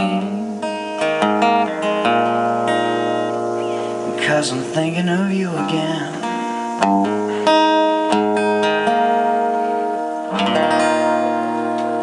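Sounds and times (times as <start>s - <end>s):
acoustic guitar chords ringing: 0.0s - 12.0s.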